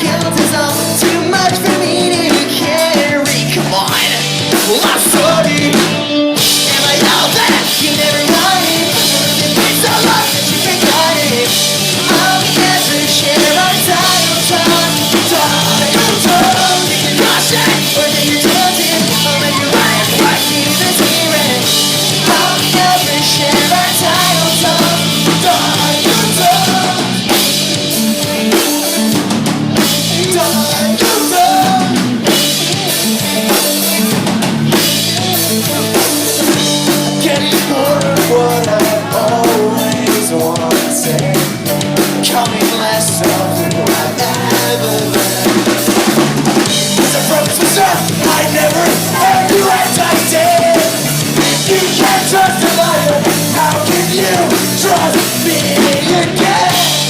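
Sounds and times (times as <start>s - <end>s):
drum kit rock beat: 0.0s - 57.0s
guitars: 0.0s - 57.0s
pop-punk band playing live: 0.0s - 57.0s.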